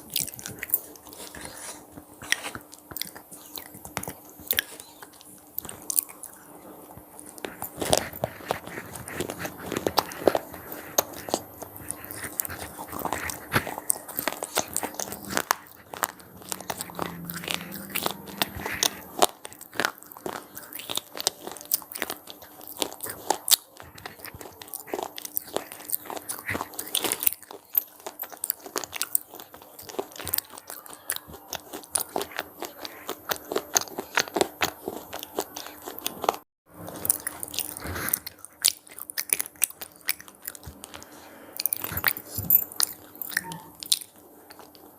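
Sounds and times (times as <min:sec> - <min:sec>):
crunchy snacks being chewed: 0:00.0 - 0:44.9.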